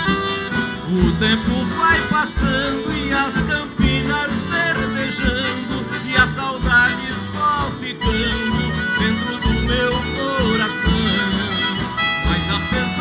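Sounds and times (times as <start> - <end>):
lead melody with gliding notes: 0.0 - 13.0
pulsing bass: 0.0 - 13.0.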